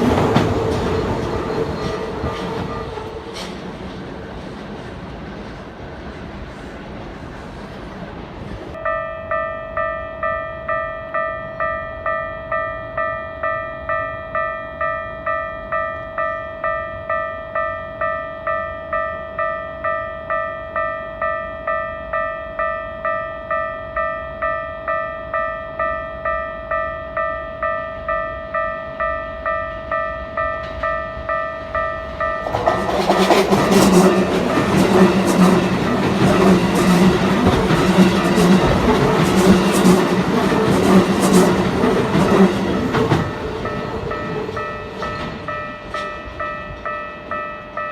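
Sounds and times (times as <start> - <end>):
level crossing warning bell: 8.7 - 47.9.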